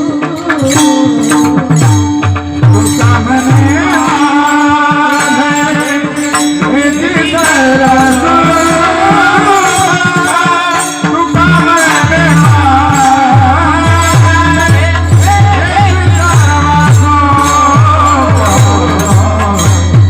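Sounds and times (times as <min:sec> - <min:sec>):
devotional song melody: 0:00.0 - 0:20.0
jingling percussion: 0:00.0 - 0:20.0.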